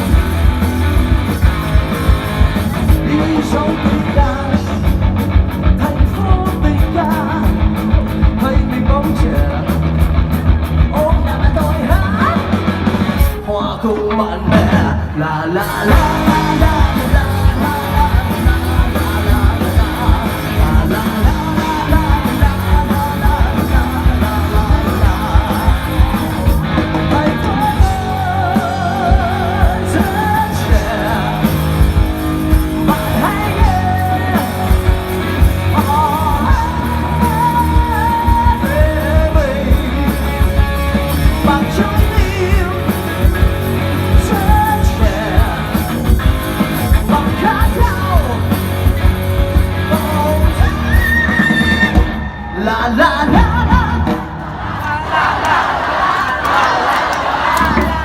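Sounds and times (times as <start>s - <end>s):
electric guitars: 0.0s - 55.6s
drums and bass beat: 0.0s - 58.0s.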